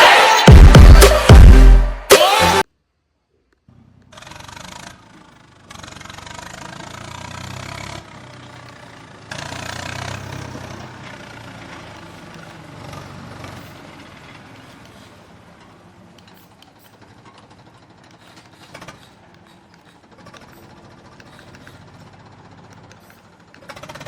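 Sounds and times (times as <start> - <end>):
toy tractor running: 3.7 - 24.0.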